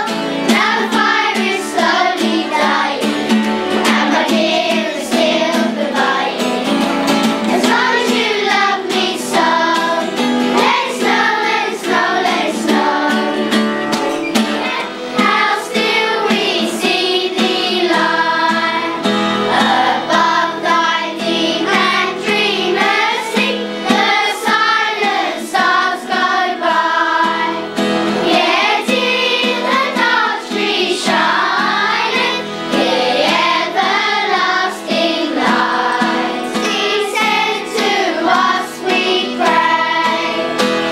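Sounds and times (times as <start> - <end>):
children's choir singing a carol: 0.0 - 40.9.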